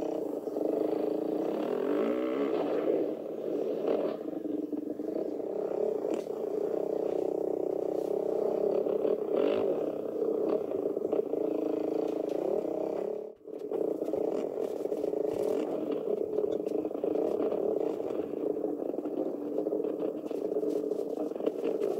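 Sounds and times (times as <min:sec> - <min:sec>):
motorbike engine revving: 0:00.0 - 0:18.4.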